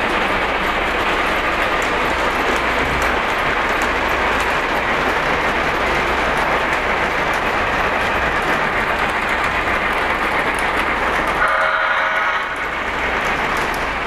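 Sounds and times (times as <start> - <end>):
model train rolling rumble: 0.0 - 14.0.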